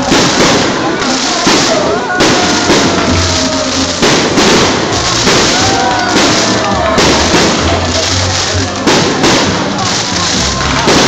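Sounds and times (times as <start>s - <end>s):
firework shells bursting: 0.0s - 11.0s
fireworks crackling: 0.0s - 11.0s.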